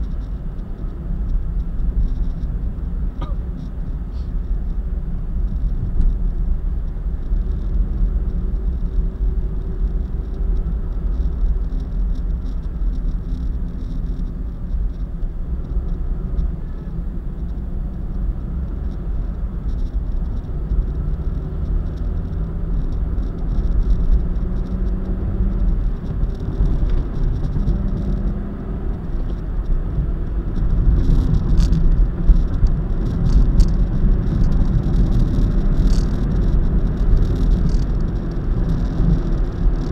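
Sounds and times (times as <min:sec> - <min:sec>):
car driving at speed: 0:00.0 - 0:39.9
sharp crackles: 0:00.0 - 0:39.9.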